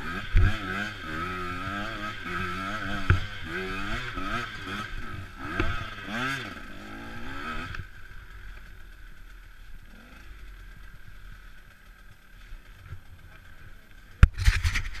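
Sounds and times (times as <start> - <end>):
two-stroke engine revving and idling: 0.0 - 15.0.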